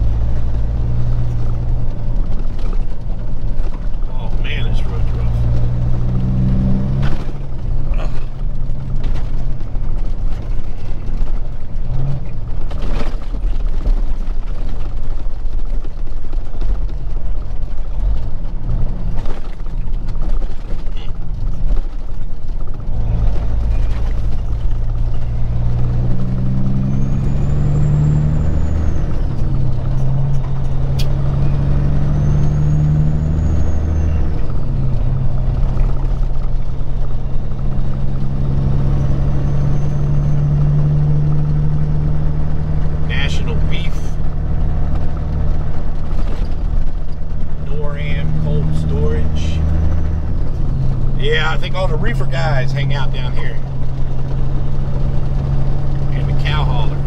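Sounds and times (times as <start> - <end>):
diesel truck engine from inside cab: 0.0 - 57.0.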